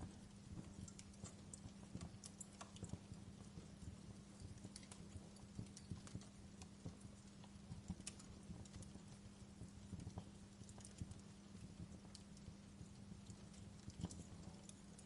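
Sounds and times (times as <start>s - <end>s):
low steady hum: 0.0s - 15.0s
wood fire crackling: 0.0s - 15.0s.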